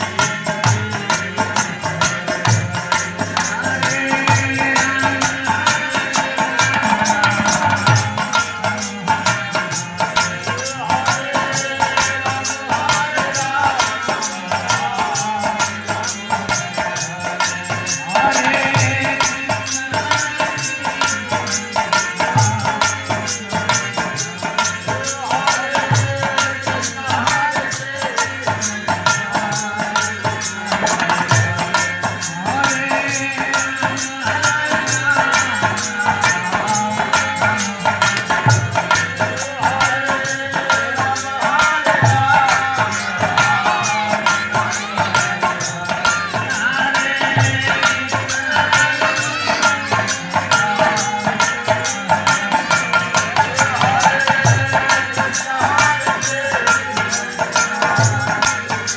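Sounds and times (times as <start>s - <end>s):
rattling hand percussion: 0.0s - 58.9s.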